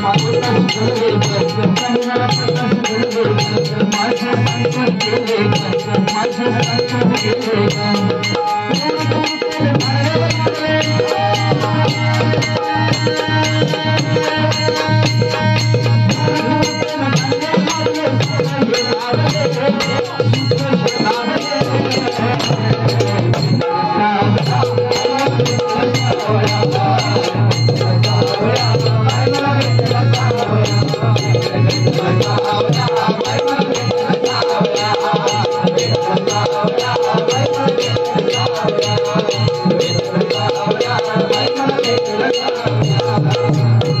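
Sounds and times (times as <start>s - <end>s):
fast percussion beat: 0.0s - 44.0s
harmonium: 0.0s - 44.0s
man singing: 0.0s - 44.0s.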